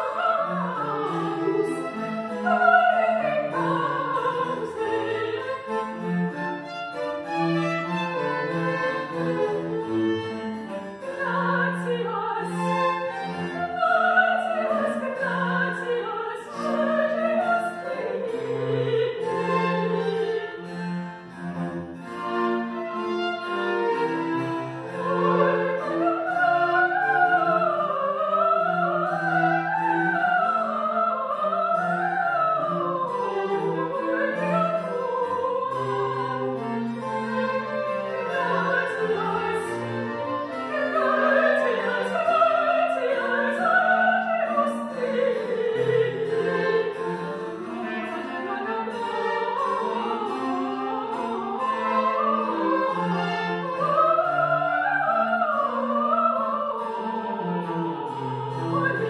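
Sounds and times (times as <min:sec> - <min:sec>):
soprano singing: 0:00.0 - 0:59.0
violins cello and keyboard: 0:00.0 - 0:59.0.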